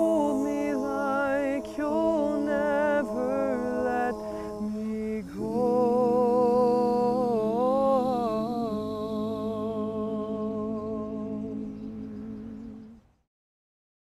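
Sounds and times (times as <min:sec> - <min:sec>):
lead voice singing: 0:00.0 - 0:12.9
men's a cappella group singing: 0:00.0 - 0:12.9.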